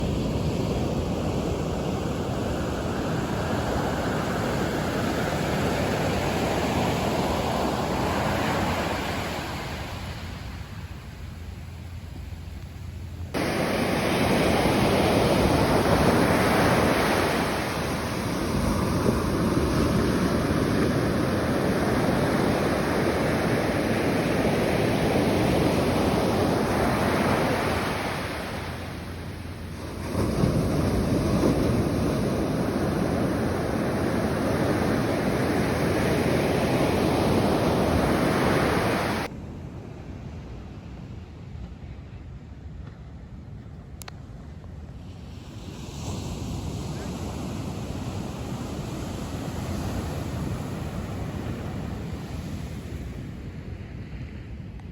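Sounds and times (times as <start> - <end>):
waves breaking on a beach: 0.0 - 43.2, 44.4 - 54.9
wind rumble on microphone: 0.0 - 54.9.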